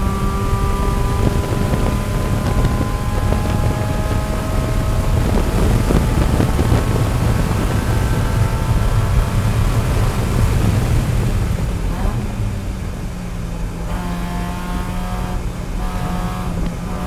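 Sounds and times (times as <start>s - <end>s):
race car engine at full throttle: 0.0s - 17.0s
wind and road noise: 0.0s - 17.0s.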